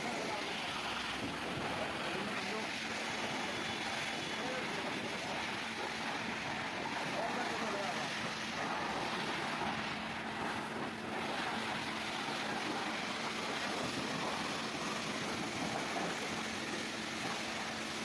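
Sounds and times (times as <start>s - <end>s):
high-pressure water spray hissing: 0.0s - 18.0s.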